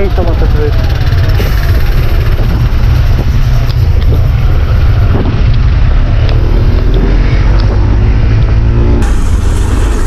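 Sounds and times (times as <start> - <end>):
wind buffeting microphone: 0.1 - 10.0.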